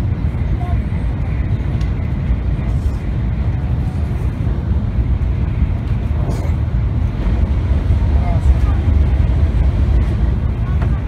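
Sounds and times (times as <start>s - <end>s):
train rumble at speed: 0.0s - 11.0s.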